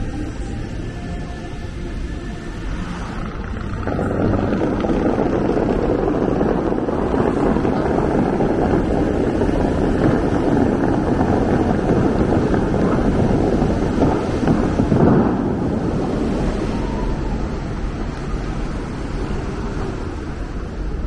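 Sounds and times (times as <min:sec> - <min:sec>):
fountain jets spraying water: 0:00.0 - 0:21.0.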